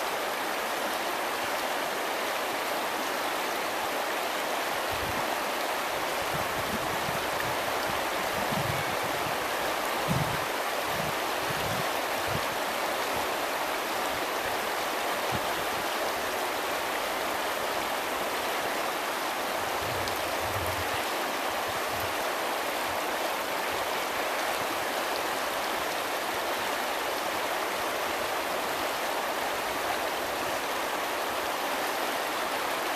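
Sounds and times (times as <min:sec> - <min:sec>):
river rushing over stones: 0:00.0 - 0:32.9.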